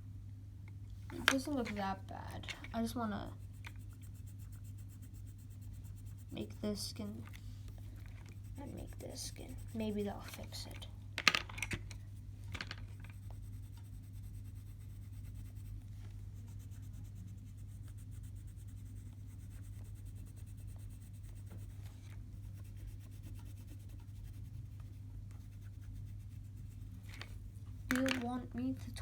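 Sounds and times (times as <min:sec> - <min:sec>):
steady low hum: 0:00.0 - 0:29.0
colored pencil on paper: 0:01.1 - 0:10.9, 0:13.0 - 0:28.8.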